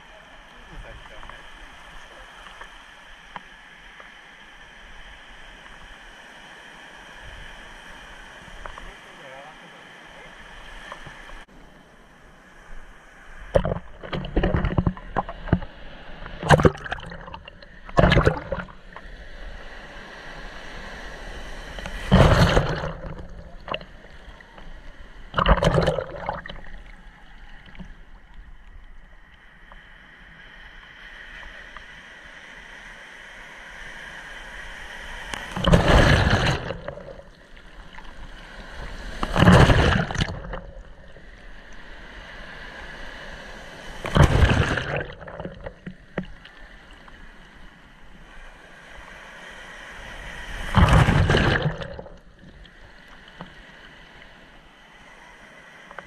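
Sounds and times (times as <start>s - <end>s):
waves splashing over camera: 0.0s - 56.0s.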